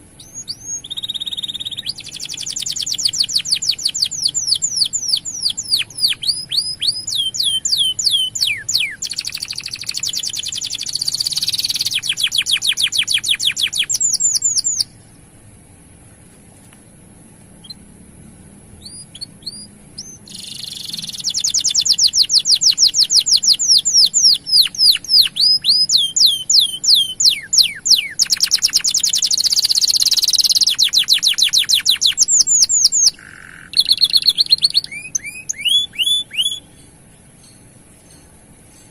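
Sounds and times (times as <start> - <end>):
canary singing fast trills: 0.0 - 15.3, 17.6 - 17.9, 18.8 - 38.9
soft bird chirps: 0.0 - 15.3, 16.2 - 17.9, 18.7 - 38.9.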